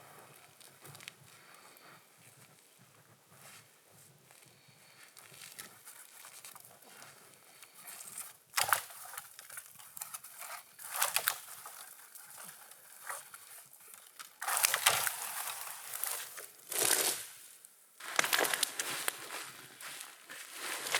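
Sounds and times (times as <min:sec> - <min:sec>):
crunching and crinkling: 0:00.0 - 0:20.9.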